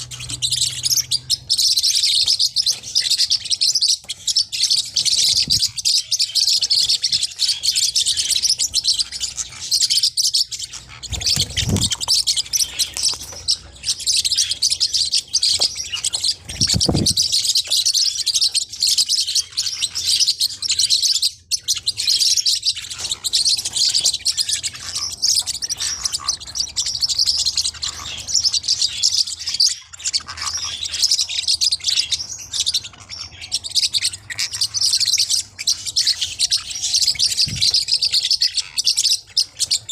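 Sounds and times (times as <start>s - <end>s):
parrotlets chirping: 0.0s - 39.9s.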